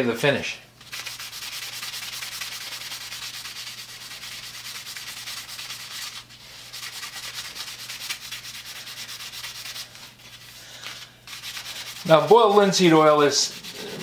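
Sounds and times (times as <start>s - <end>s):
scouring pad scrubbing wood: 0.9s - 9.9s, 11.3s - 14.0s.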